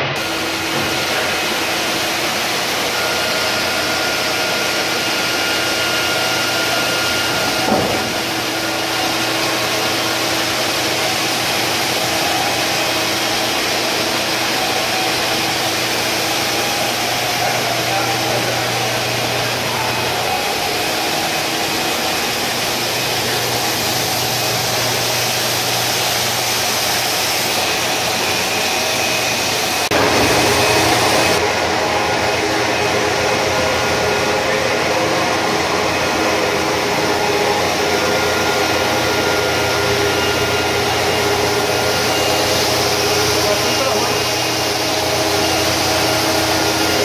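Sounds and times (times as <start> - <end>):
carpet washing machine whirring: 0.0 - 47.0.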